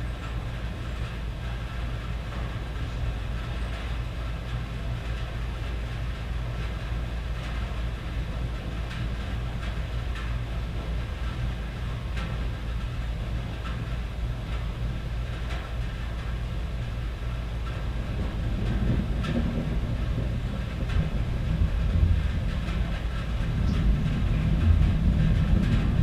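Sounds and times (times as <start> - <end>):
low rumble of thunder: 0.0 - 26.0
rain on a tin roof: 0.0 - 26.0.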